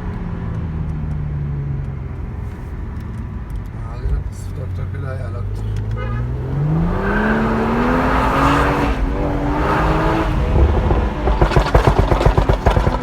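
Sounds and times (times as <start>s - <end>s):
car engine accelerating: 0.0s - 13.0s
exhaust crackles and pops: 0.0s - 13.0s.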